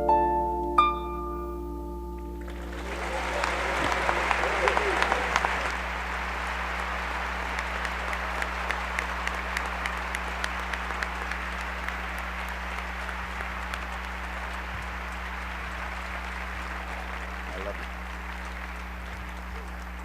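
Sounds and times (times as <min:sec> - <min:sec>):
low electrical hum: 0:00.0 - 0:20.0
audience applauding: 0:02.4 - 0:20.0.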